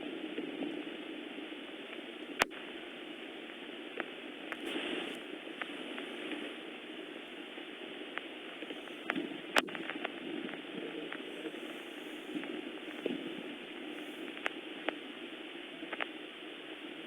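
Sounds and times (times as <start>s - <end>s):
rain falling: 0.1s - 17.0s.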